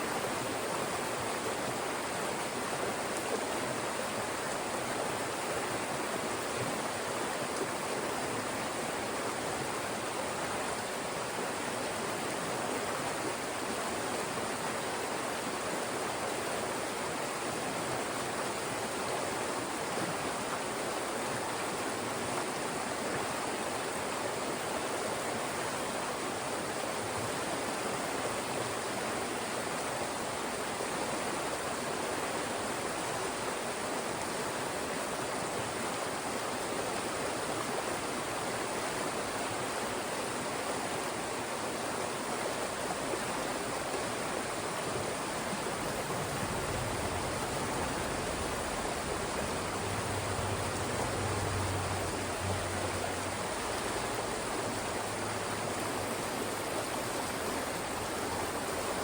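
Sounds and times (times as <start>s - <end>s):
mountain stream rushing over rocks: 0.0s - 59.0s.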